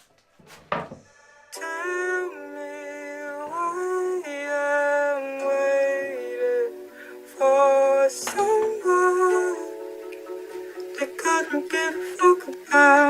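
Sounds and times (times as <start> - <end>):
held chords background music: 1.1 - 13.0.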